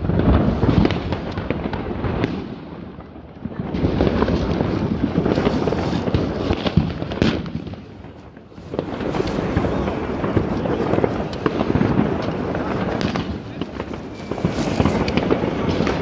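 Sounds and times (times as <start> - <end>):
fireworks crackling and banging: 0.0 - 16.0
sharp firework cracks: 0.0 - 16.0.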